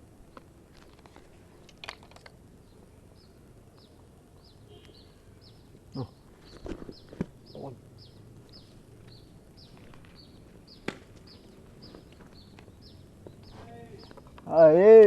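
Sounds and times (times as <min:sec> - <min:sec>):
faint outdoor background: 0:00.0 - 0:15.0
bird chirping: 0:02.6 - 0:14.7.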